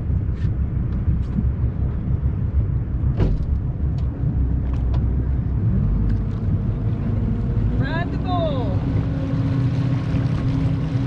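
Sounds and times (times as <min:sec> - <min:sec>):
motorboat engine rumbling: 0:00.0 - 0:11.0.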